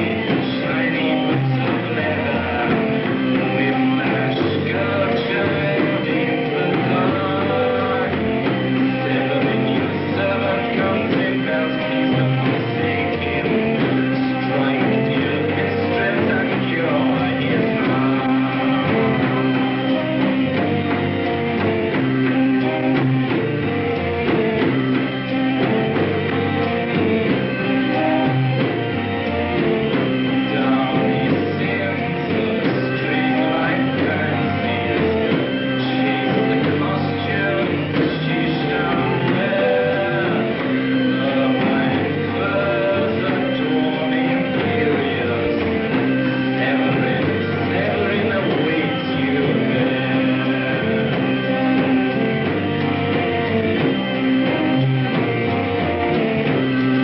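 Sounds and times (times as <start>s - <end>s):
person singing: 0.0s - 57.0s
rock music with guitar: 0.0s - 57.0s.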